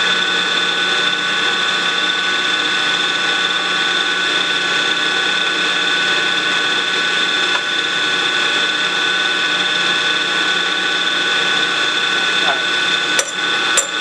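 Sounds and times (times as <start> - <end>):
milling machine whine: 0.0 - 14.0.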